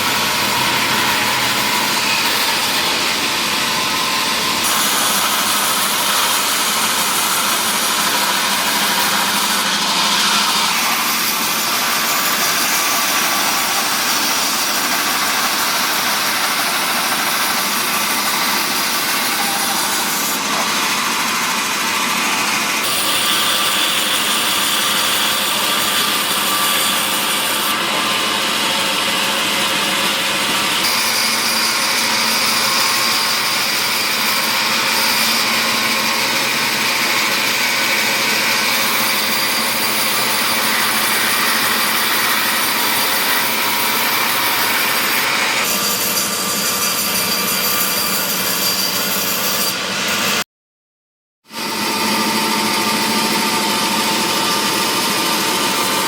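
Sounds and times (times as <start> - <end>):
power saw cutting wood: 0.0 - 50.4, 51.5 - 56.0.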